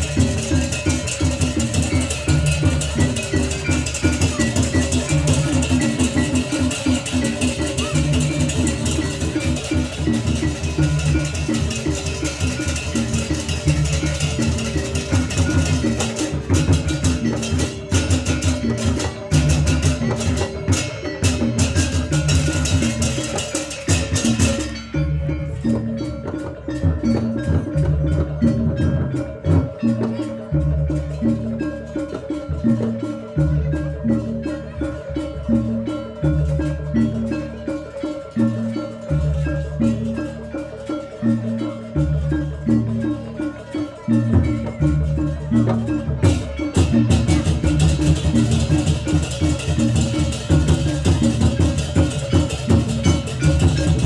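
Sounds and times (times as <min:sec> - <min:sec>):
drums: 0:00.0 - 0:54.0
tuned mallet percussion: 0:00.0 - 0:54.0.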